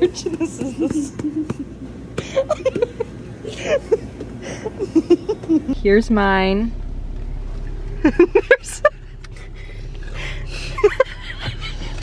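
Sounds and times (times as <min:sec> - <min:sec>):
car idling hum: 0:00.0 - 0:12.0.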